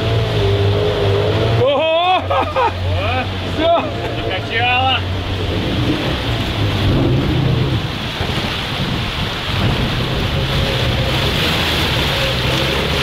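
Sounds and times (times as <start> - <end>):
outboard motor running: 0.0 - 13.0
river water rushing and splashing: 0.0 - 13.0.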